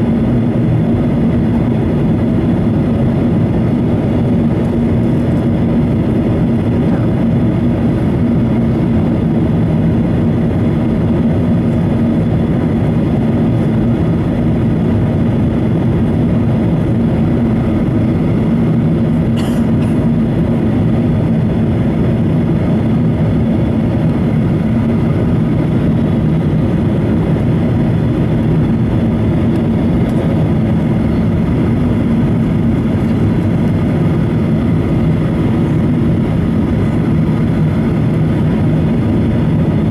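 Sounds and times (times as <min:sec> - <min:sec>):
airplane cabin engine drone: 0:00.0 - 0:39.9
rushing airflow: 0:00.0 - 0:39.9.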